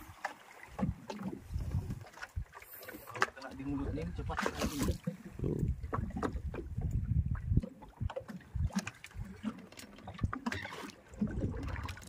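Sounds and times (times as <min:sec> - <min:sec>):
wind and water against hull: 0:00.0 - 0:12.0.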